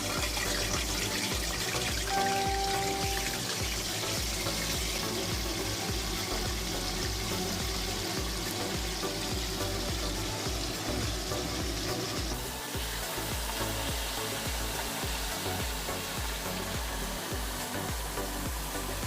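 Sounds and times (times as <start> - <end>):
background music with low beat: 0.0 - 19.0
fish sizzling in hot oil: 0.0 - 19.0.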